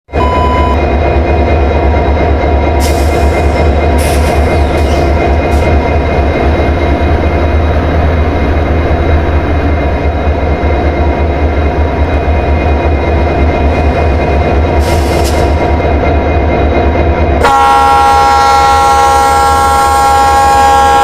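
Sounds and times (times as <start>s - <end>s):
train rumbling: 0.1s - 21.0s.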